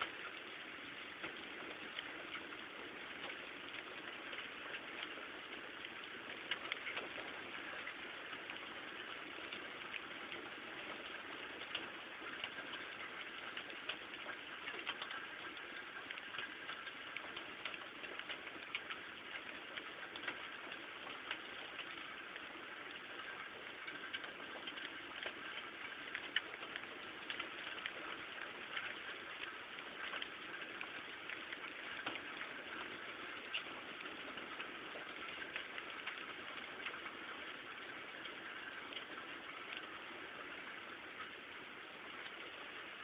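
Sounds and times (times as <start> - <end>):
raindrops tapping surfaces: 0.0 - 43.0
steady rain falling: 0.0 - 43.0.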